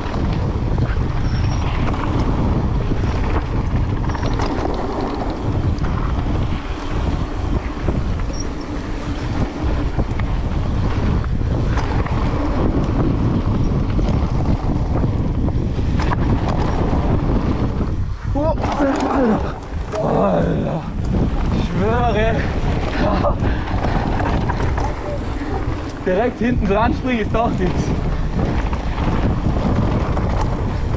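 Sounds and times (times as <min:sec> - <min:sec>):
bike rattles and knocks: 0:00.0 - 0:30.9
wind buffeting on microphone: 0:00.0 - 0:30.9.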